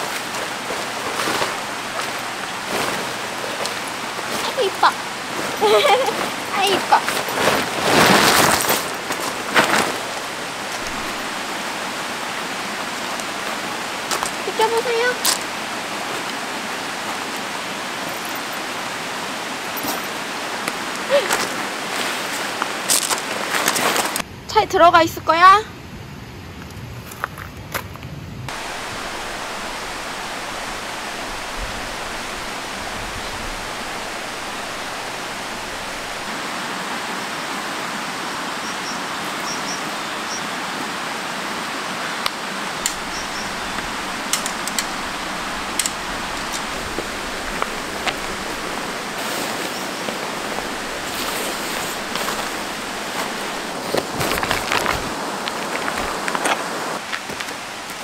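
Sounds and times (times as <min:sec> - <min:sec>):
tent fabric rustling: 0:00.0 - 0:24.2, 0:28.5 - 0:36.7, 0:42.4 - 0:58.0
mountain stream rushing: 0:00.0 - 0:24.3, 0:28.5 - 0:58.0.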